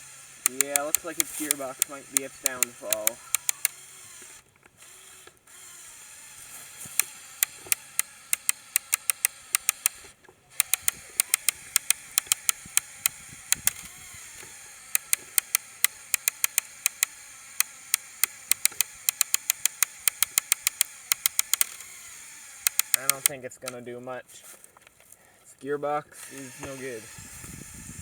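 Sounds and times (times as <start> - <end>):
plastic gears clicking: 0.0 - 23.8.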